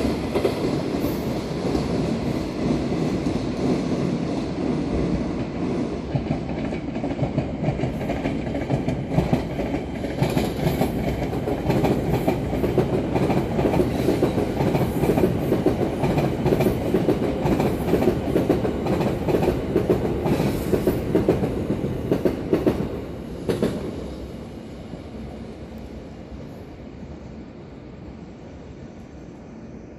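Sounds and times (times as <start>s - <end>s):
train wheels rumbling and clattering: 0.0s - 24.5s.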